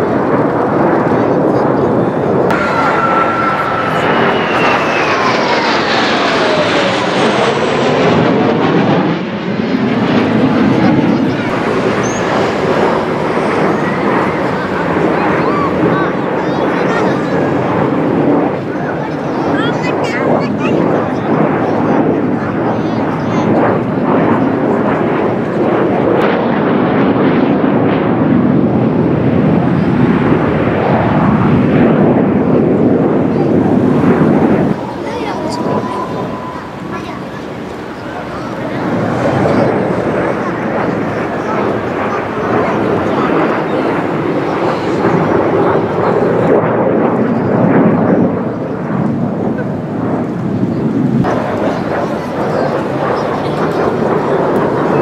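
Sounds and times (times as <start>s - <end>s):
jet planes passing overhead: 0.0s - 55.0s.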